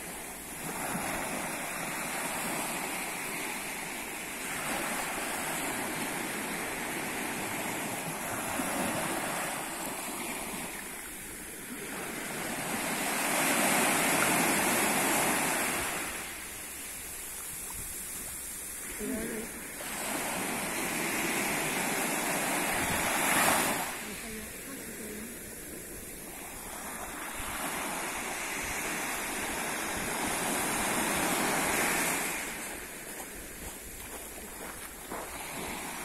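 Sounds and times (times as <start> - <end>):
small waves washing up sand: 0.0 - 36.0.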